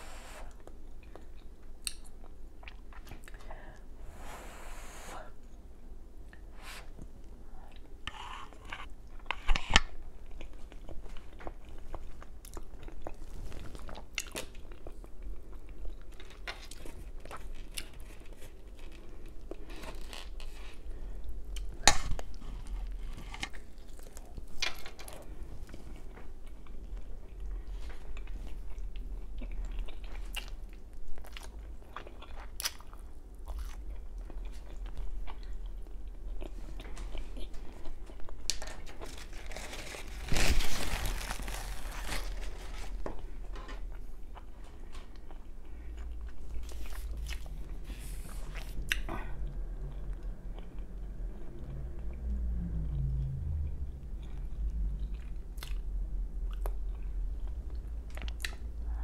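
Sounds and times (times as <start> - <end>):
person chewing food: 0.5 - 3.4, 6.3 - 52.3, 53.0 - 59.0.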